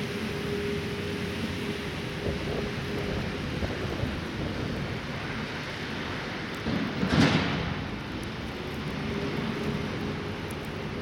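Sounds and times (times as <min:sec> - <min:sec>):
blizzard wind rushing: 0:00.0 - 0:11.0.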